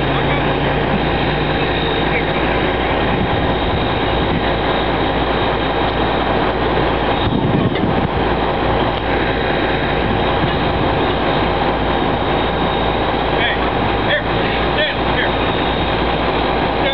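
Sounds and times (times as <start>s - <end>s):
crane engine running: 0.0s - 16.9s.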